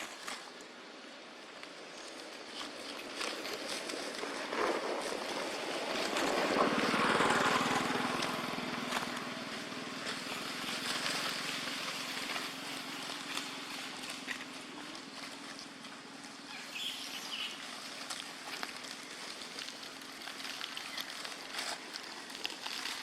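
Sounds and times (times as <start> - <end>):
motor vehicle passing: 2.6 - 23.0.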